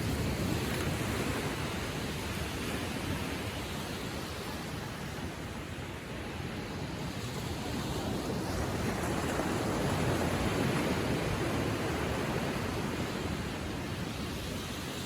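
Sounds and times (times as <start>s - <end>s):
ocean waves lapping on shore: 0.0s - 15.0s.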